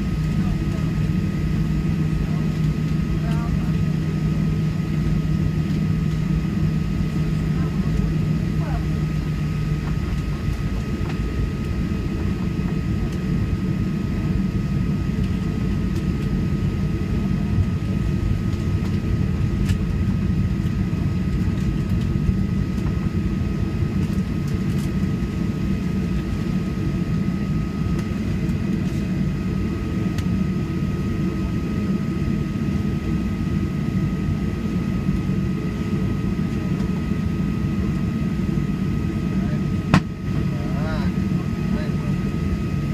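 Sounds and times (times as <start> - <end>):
airplane cabin rumble: 0.0 - 42.9
thin steady whine: 0.0 - 42.9.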